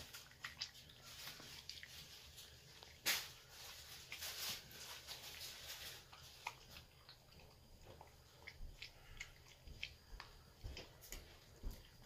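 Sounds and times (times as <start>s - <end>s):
dog chewing food: 0.0s - 3.0s, 3.8s - 12.0s.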